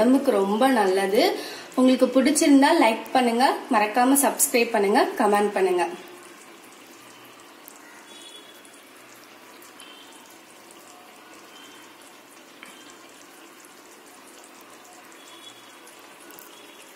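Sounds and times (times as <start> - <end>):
curry simmering and bubbling: 0.0 - 16.9.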